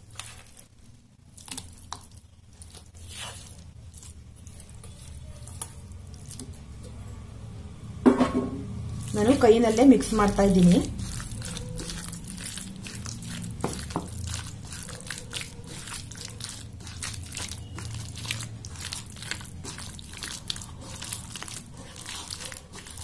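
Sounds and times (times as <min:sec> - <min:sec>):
wet squishing of marinated meat: 0:00.0 - 0:06.9, 0:08.9 - 0:23.0.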